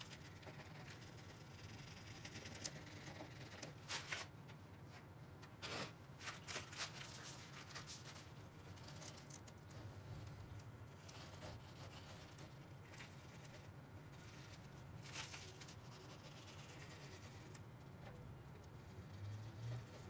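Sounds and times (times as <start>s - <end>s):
faint room noise: 0.0s - 20.0s.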